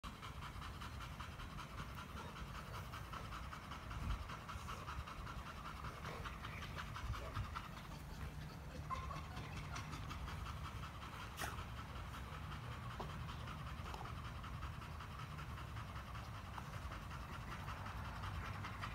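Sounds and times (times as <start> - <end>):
dogs panting: 0.0 - 18.9.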